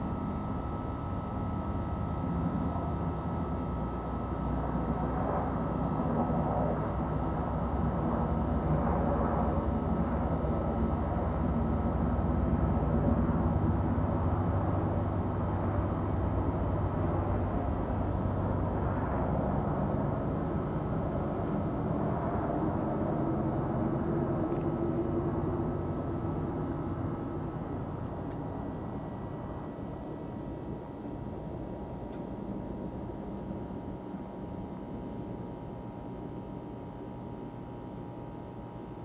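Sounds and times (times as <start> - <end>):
helicopter flying over: 0.0 - 39.0.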